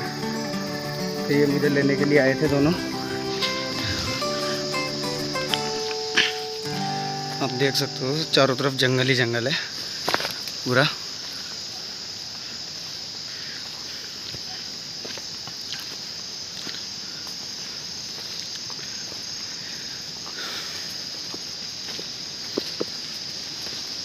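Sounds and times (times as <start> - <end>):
footsteps on stony path: 0.0 - 24.0
insect chorus: 0.0 - 24.0.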